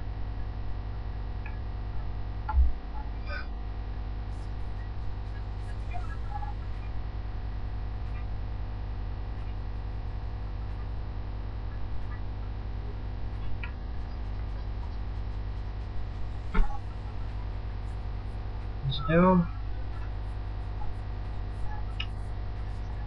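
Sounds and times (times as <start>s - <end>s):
low electrical mains hum: 0.0s - 23.0s.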